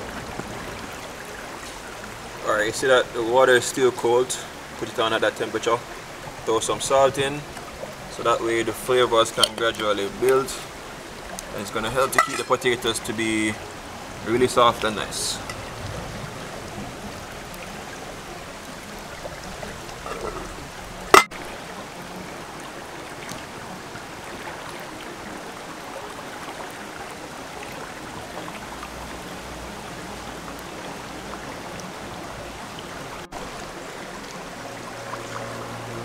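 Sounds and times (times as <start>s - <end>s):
stream flowing over stones: 0.0s - 36.0s.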